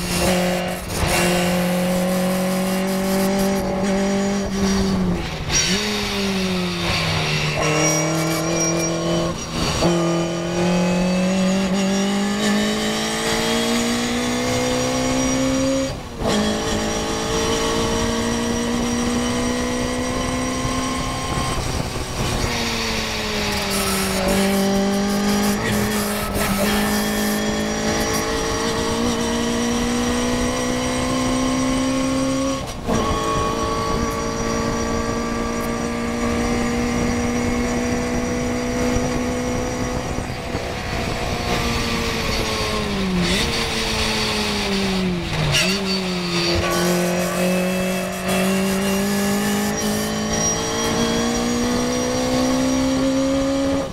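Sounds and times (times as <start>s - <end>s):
race car engine at full throttle: 0.0s - 53.9s.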